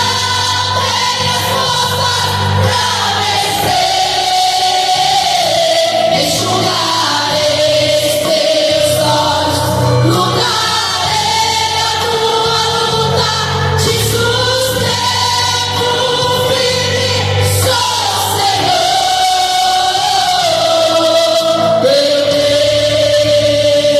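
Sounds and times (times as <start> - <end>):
gospel choir singing: 0.0 - 23.9.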